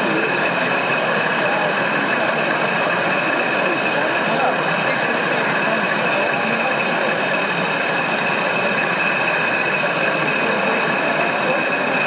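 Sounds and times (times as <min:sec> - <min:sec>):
constant high hum: 0:00.0 - 0:12.0
model truck engine idling: 0:00.0 - 0:12.0.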